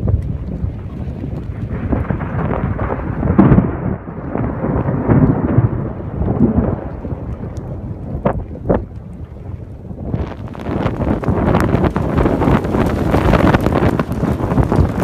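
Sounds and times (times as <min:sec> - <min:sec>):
rain: 0:00.0 - 0:15.0
thunder rumbling: 0:00.0 - 0:15.0.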